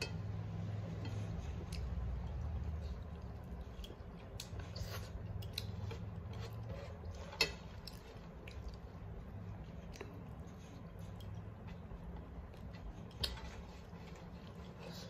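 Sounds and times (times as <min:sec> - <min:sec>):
fingers squishing rice and curry: 0:00.2 - 0:15.0.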